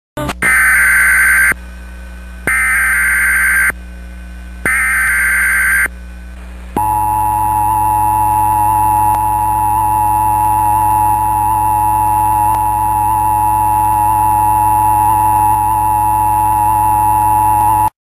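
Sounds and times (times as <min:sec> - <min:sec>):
data tone bursts: 0:00.4 - 0:01.6, 0:02.5 - 0:03.8, 0:04.7 - 0:05.9, 0:06.8 - 0:17.9.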